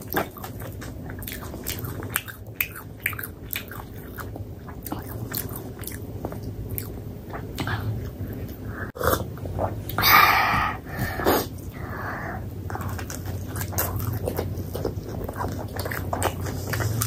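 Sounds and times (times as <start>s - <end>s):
wet chewing and mouth smacking: 0.0s - 10.0s, 12.6s - 17.0s
steady low hum: 0.0s - 17.0s.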